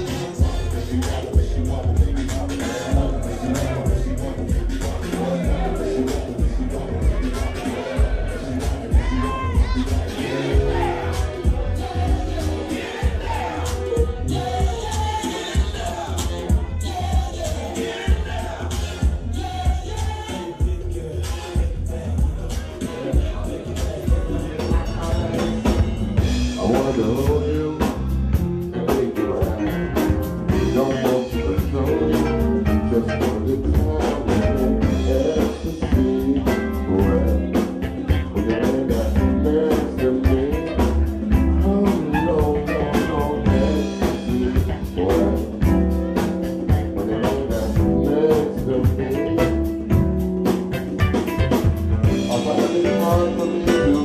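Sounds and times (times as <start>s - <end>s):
drum beat: 0.0s - 54.0s
live band playing: 0.0s - 54.0s.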